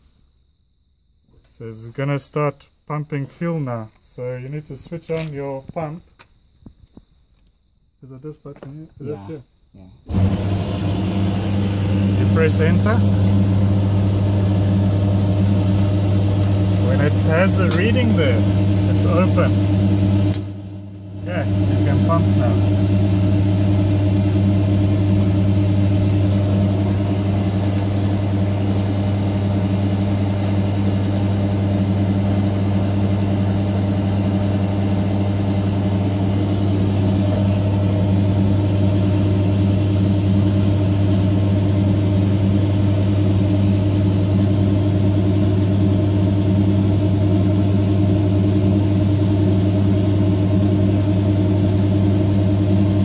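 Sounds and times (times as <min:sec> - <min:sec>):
fuel pump humming: 0:10.1 - 0:53.0.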